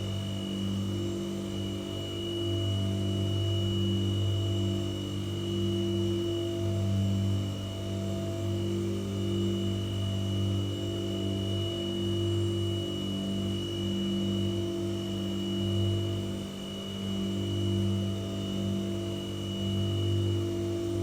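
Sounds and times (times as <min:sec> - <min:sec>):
white noise machine hum and hiss: 0:00.0 - 0:21.0.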